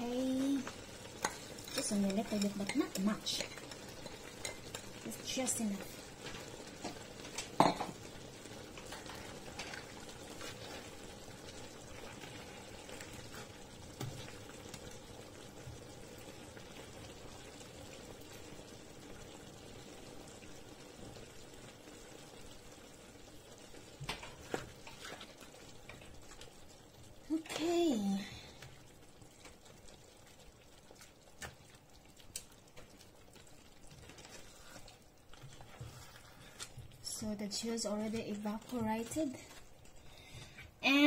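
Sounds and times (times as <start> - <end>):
sauce bubbling in a frying pan: 0.0 - 41.0.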